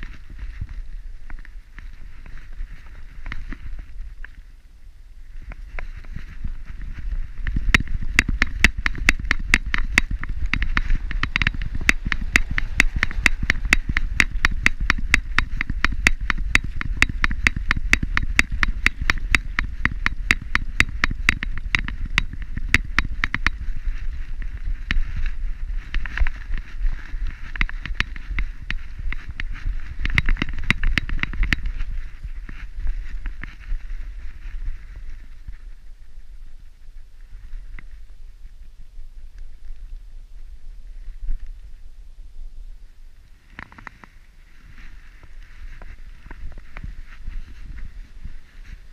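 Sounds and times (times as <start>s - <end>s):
low rumble: 0.0s - 48.9s.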